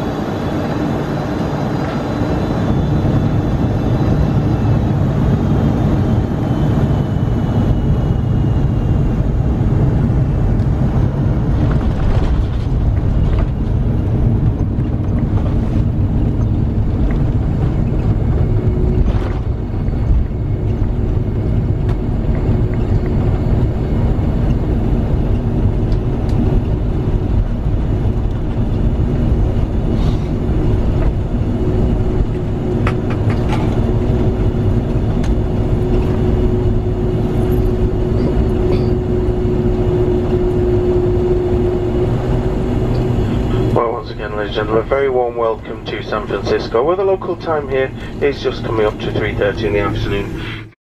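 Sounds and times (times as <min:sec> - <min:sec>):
airplane cabin rumble: 0:00.0 - 0:50.8
steady hum: 0:00.0 - 0:50.8.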